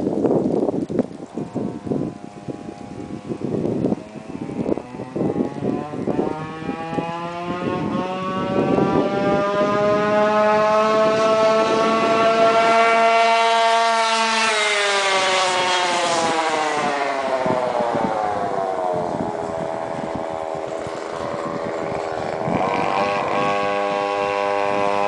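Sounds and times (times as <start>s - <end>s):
scooter engine passing by: 1.4s - 25.0s.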